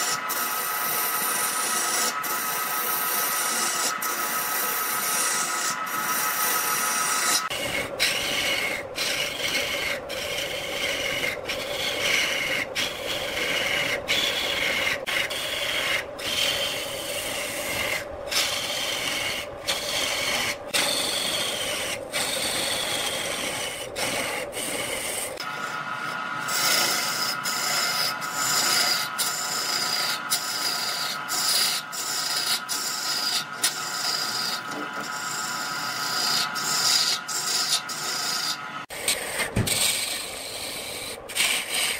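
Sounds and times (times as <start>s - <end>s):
gouge scraping spinning wood: 0.0s - 41.9s
wood lathe rumble: 0.0s - 41.9s.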